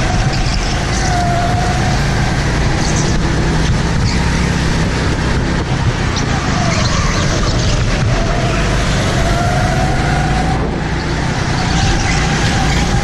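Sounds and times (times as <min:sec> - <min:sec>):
broad rushing noise: 0:00.0 - 0:13.0
go-kart engine running hard: 0:00.0 - 0:13.0.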